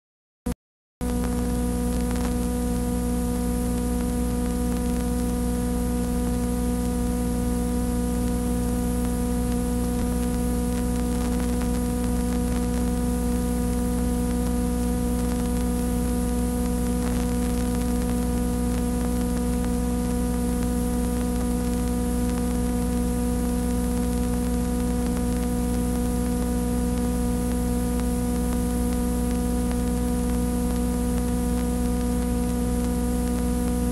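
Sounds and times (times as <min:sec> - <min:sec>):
electrical mains hum: 0:01.0 - 0:33.9
tape hiss: 0:01.0 - 0:33.9.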